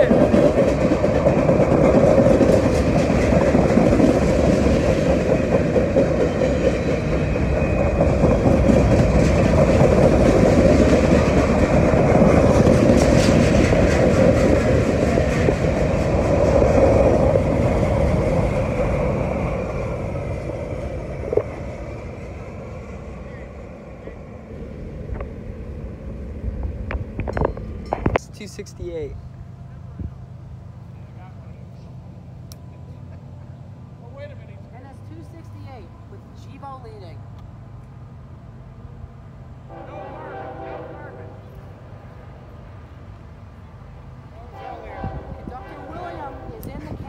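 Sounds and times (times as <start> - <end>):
freight train rolling past: 0.0 - 47.0.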